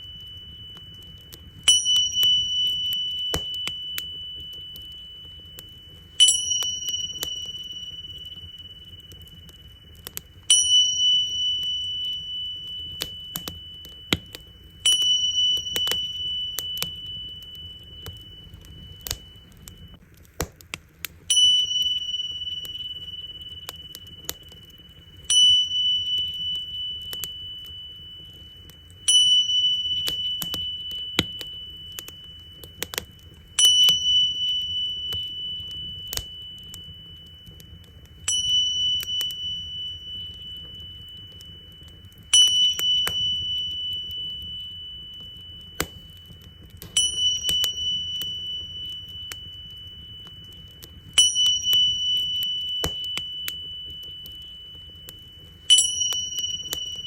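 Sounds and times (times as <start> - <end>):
tingsha cymbals ringing: 0.0 - 20.0, 21.3 - 57.0
wood fire crackling: 0.0 - 57.0.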